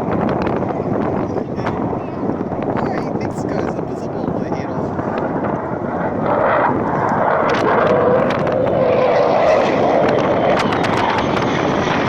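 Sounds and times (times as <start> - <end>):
fighter jet engine roar: 0.0 - 12.0.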